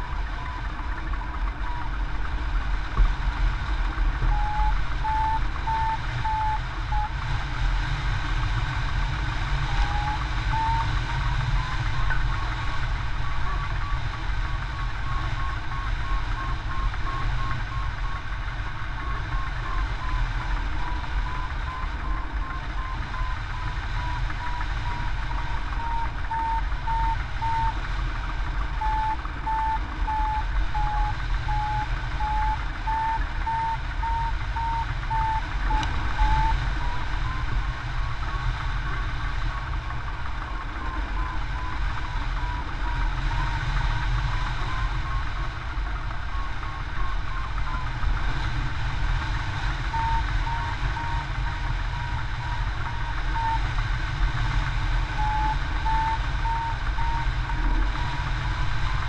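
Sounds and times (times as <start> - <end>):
variometer beeping: 0.0 - 2.6, 3.9 - 7.6, 8.2 - 59.0.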